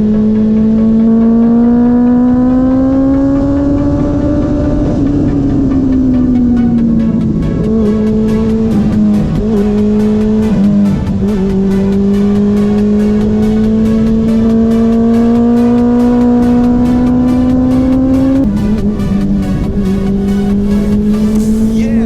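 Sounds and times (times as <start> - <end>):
background music with beat: 0.0 - 22.0
motorcycle engine accelerating: 0.0 - 22.0.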